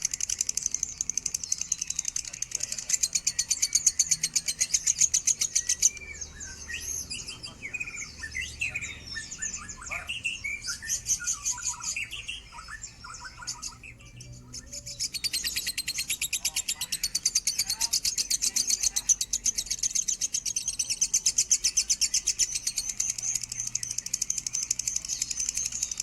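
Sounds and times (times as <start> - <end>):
bird trilling and warbling: 0.0 - 26.0.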